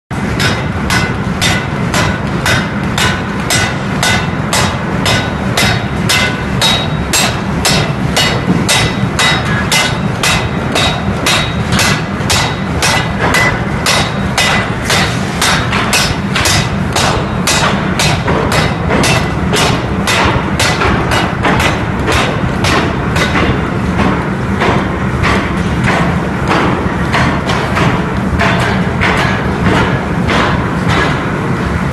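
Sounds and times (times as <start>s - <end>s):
forging hammer blows: 0.1s - 31.9s
low machine rumble: 0.1s - 31.9s.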